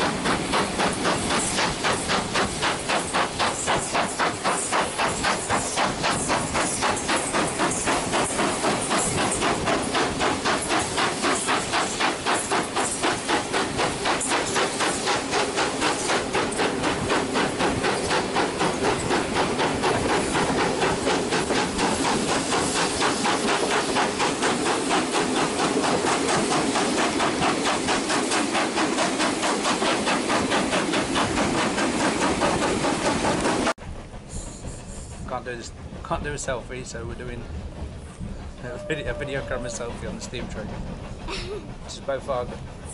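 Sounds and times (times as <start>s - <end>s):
steam hissing: 0.0s - 42.9s
steam locomotive chuffing: 0.0s - 42.9s.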